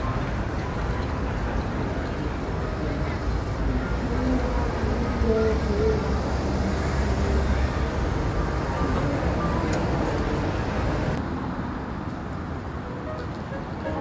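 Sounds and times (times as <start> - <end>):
low rumble of vehicles: 0.0 - 14.0.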